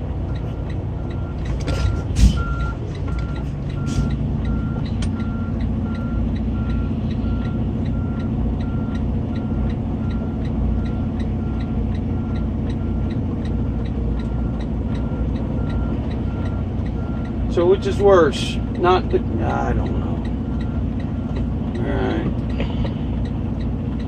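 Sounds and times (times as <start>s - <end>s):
diesel truck engine running: 0.0s - 24.0s
backup alarm beeping: 0.4s - 21.4s.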